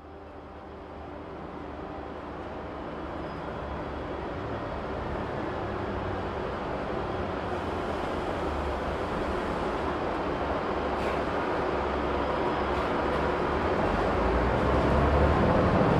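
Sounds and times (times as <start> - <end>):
bus engine and road rumble: 0.0 - 15.9.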